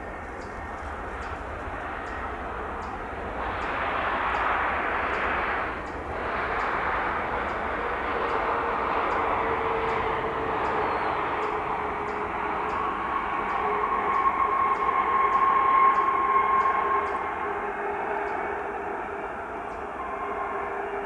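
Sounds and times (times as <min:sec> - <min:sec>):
jet engine whine: 0:00.0 - 0:21.0
jet engines rushing: 0:00.0 - 0:21.0.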